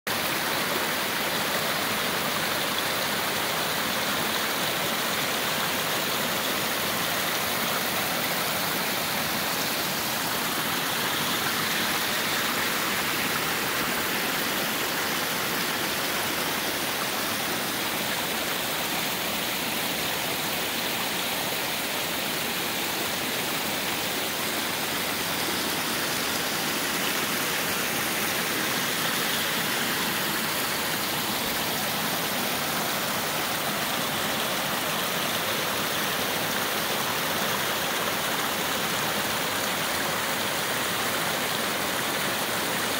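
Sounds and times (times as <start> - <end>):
waterfall splashing over rocks: 0.1 - 42.9.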